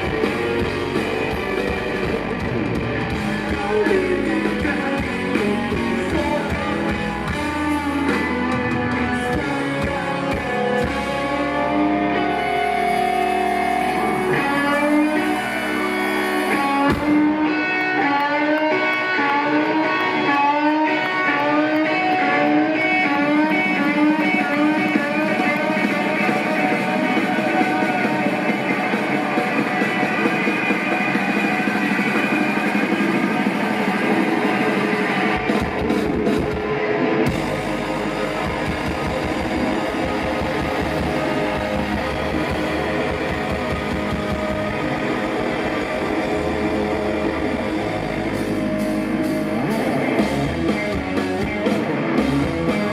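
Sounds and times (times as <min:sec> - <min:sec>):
drum kit: 0:00.0 - 0:52.9
electric guitars: 0:00.0 - 0:52.9.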